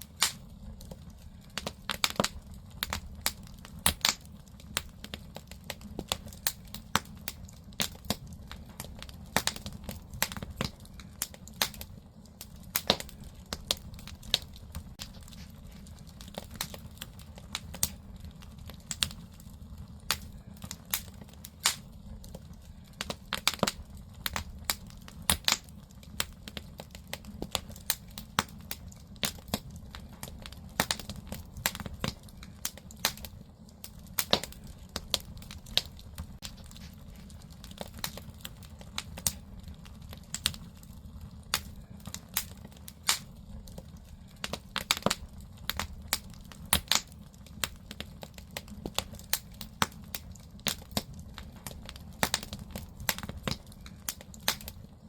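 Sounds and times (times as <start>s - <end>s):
firewood crackling and popping: 0.0s - 55.0s
low rumble of fire: 0.0s - 55.0s.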